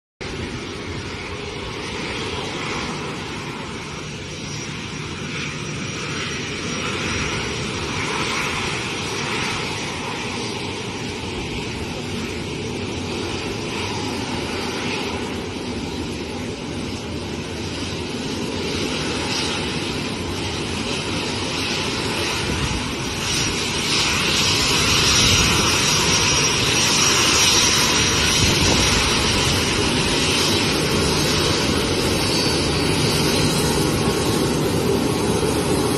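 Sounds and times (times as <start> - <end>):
airplane engines running: 0.2 - 35.9.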